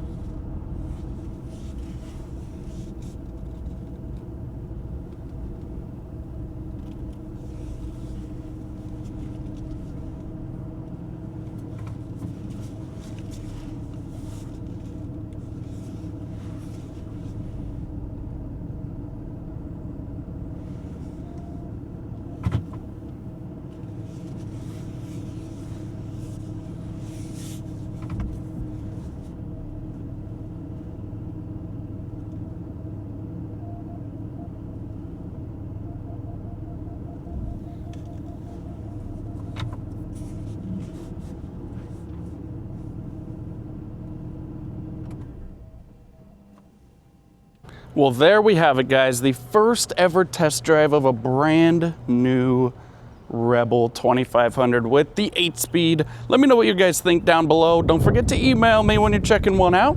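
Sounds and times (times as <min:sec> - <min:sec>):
diesel engine running: 0:00.0 - 0:59.9
road noise rumble: 0:00.0 - 0:59.9.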